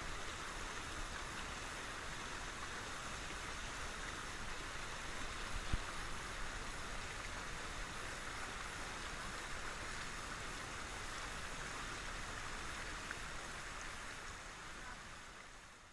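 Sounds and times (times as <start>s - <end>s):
river rushing over rocks: 0.0s - 15.9s.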